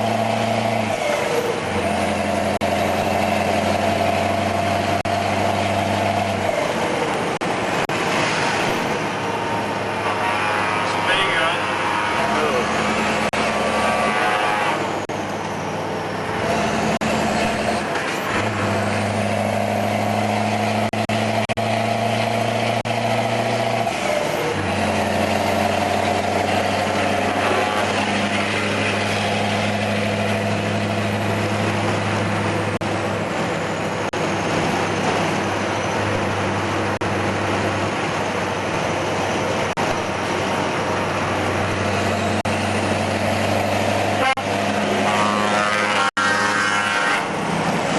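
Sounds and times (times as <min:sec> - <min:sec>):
diesel truck engine under load: 0:00.0 - 0:47.9.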